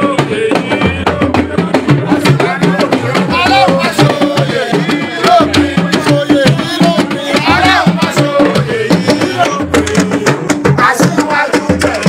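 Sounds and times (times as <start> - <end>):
hand drums: 0.0 - 12.0
person singing: 0.0 - 12.0.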